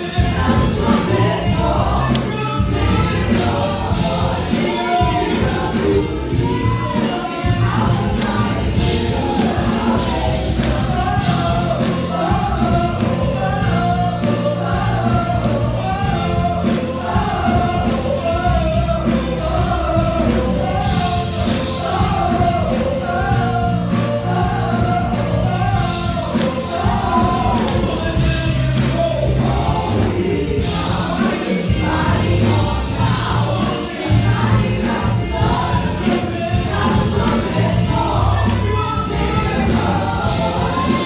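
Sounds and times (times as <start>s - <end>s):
band with steady beat: 0.0s - 41.0s
voices singing together: 0.0s - 41.0s.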